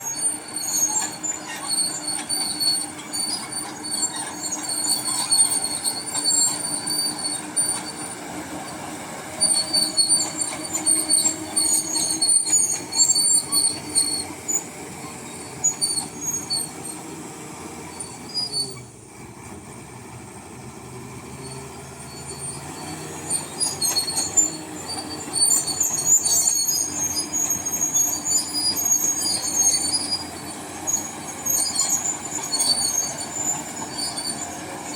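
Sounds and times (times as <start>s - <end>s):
high-pitched track squeals: 0.0s - 19.0s, 21.2s - 34.9s
bulldozer running: 0.0s - 34.9s.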